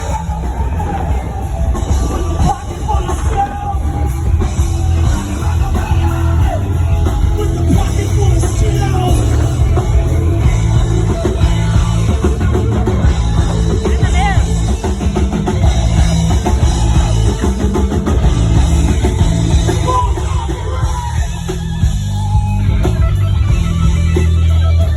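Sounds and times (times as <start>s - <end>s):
shouted vocals: 0.0s - 23.1s
heavy rock music: 0.0s - 24.9s.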